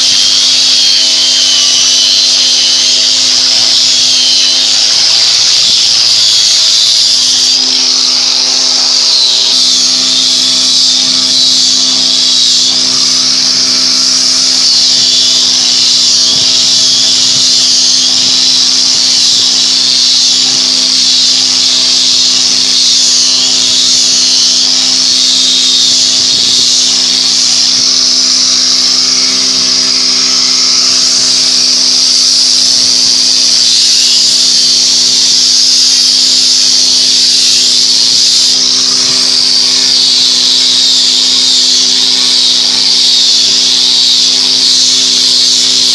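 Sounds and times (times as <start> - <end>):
loud high hiss: 0.0 - 45.9.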